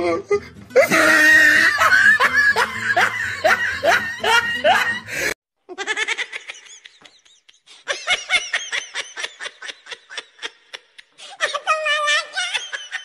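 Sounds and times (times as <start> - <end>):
people laughing: 0.8 - 13.0.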